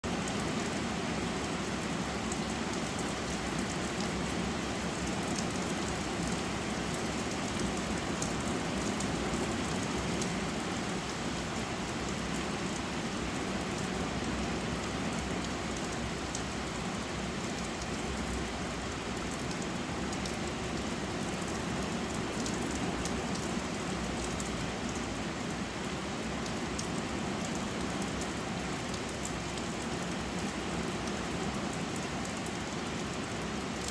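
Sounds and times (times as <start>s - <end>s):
rain pattering on a surface: 0.0s - 33.9s.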